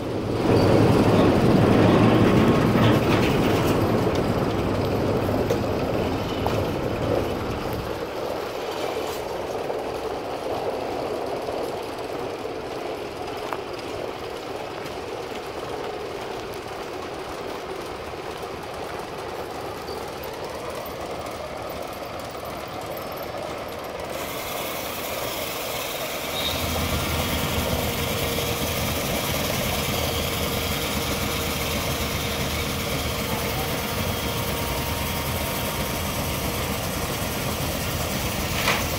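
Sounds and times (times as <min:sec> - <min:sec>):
sawmill machinery rumble and clatter: 0:00.0 - 0:38.9.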